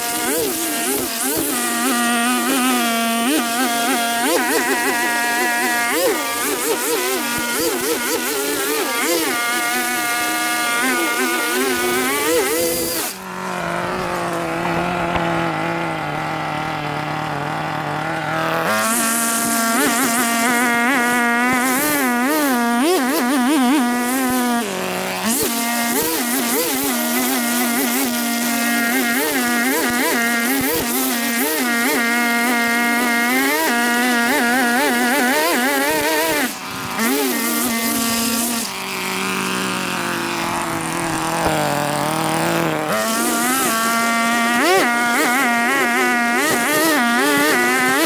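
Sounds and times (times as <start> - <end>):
string trimmer engine running: 0.0 - 48.0
trimmer line cutting grass: 0.0 - 48.0.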